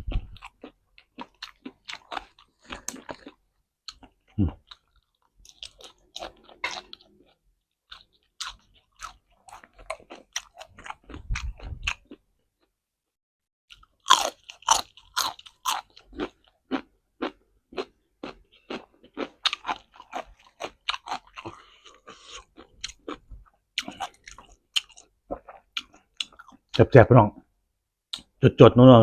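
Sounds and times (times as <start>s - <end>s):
chewing crunchy raw vegetables: 0.0s - 12.7s, 13.7s - 26.8s.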